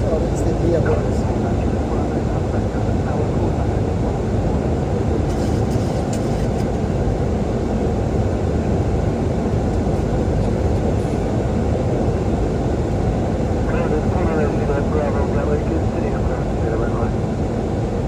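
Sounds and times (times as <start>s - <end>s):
cockpit airflow and engine noise: 0.0s - 18.0s.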